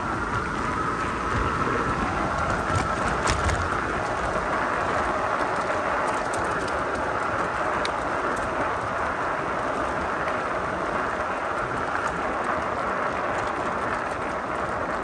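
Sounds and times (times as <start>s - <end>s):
bike tyres rolling: 0.0s - 15.0s.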